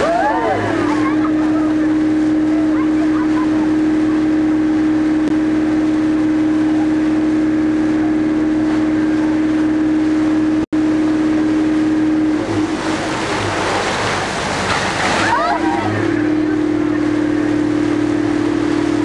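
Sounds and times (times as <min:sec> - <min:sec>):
boat engine droning: 0:00.0 - 0:19.0
churning wake hiss: 0:00.0 - 0:19.0.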